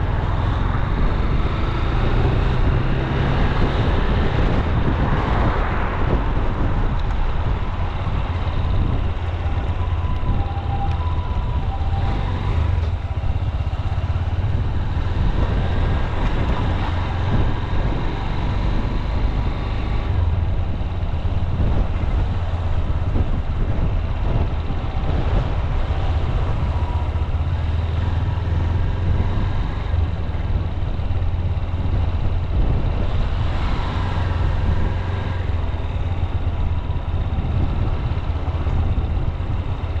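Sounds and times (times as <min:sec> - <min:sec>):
motorcycle engine running: 0:00.0 - 0:40.0
road and wind noise: 0:00.0 - 0:40.0.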